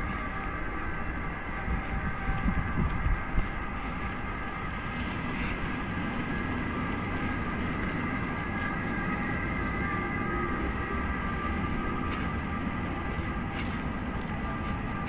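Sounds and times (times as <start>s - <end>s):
high whining tones: 0.0s - 15.0s
rail vehicle rumble: 0.0s - 15.0s.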